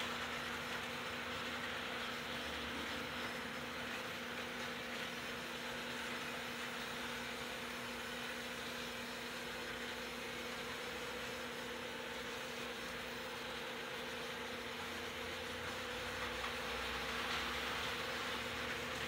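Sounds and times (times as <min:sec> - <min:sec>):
model train motors whirring: 0:00.0 - 0:19.0.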